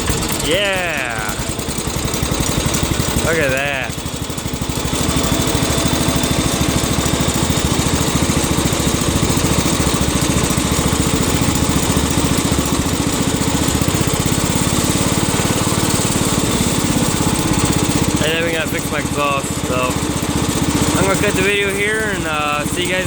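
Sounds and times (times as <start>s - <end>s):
tractor engine running steadily: 0.0s - 23.0s.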